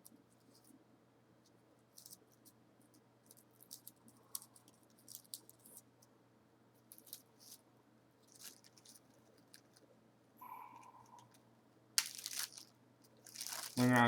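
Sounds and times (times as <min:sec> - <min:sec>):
small clicks and crackles: 0:00.0 - 0:00.8, 0:01.4 - 0:06.2, 0:06.8 - 0:10.0, 0:10.8 - 0:11.4, 0:12.0 - 0:14.0.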